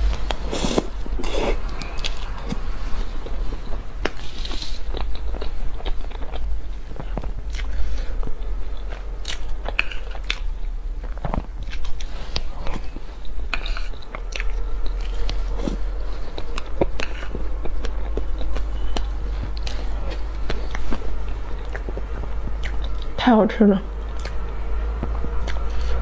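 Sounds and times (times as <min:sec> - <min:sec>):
wet chewing: 0:00.0 - 0:23.2, 0:23.9 - 0:26.0
low hum: 0:00.0 - 0:26.0.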